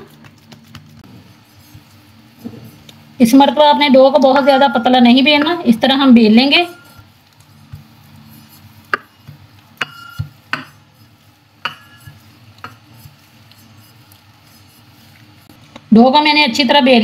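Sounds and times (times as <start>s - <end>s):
rolling pin rolling dough: 0.0s - 15.6s.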